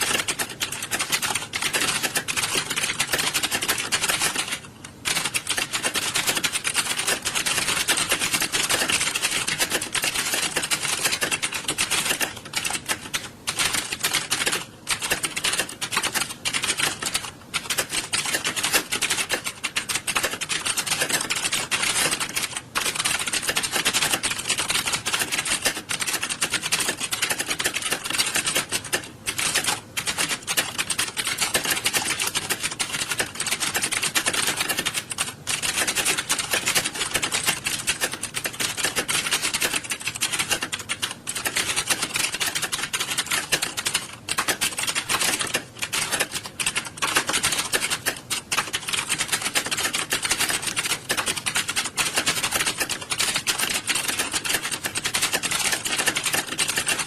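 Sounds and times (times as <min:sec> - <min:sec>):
keyboards clattering: 0:00.0 - 0:57.0.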